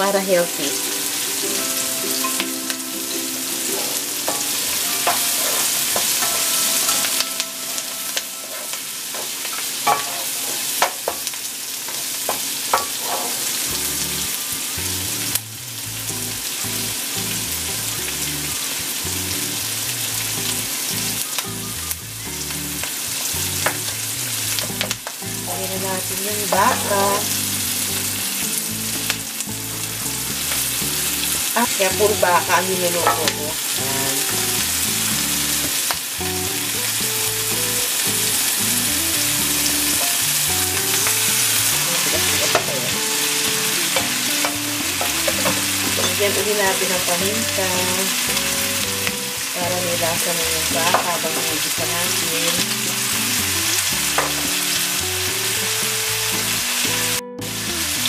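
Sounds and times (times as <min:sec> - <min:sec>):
onion and garlic sizzling in oil: 0:00.0 - 0:58.0.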